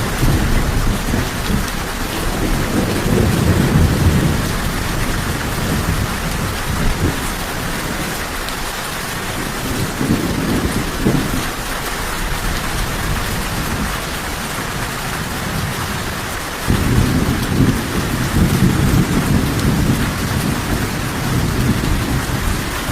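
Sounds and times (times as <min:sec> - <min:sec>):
rolling thunder: 0:00.0 - 0:08.2, 0:09.2 - 0:11.6, 0:12.3 - 0:22.9
heavy rain: 0:00.0 - 0:22.9.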